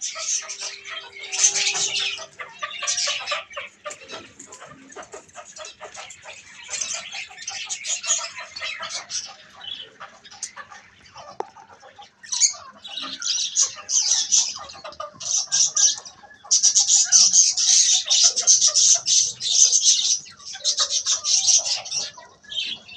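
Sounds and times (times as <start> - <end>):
budgerigars chirping: 0.0 - 22.9.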